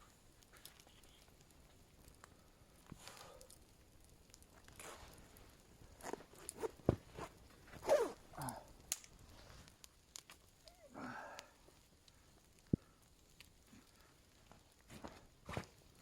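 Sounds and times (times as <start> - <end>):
sharp clicks and cracks: 0.4 - 10.8, 11.4 - 14.8.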